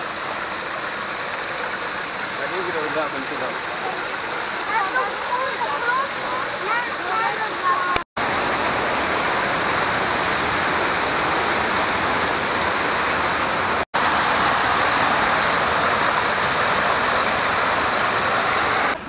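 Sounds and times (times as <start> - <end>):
water rushing over cascades: 0.0 - 19.0.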